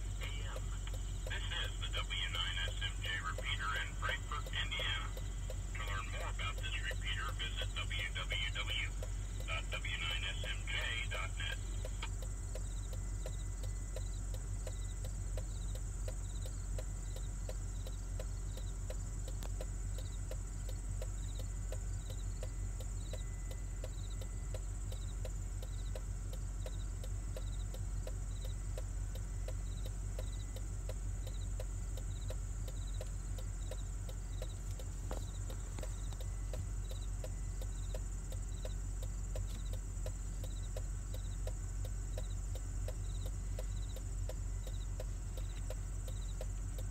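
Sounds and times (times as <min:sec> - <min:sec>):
insects chirping: 0:00.0 - 0:46.9
insects droning: 0:00.0 - 0:46.9.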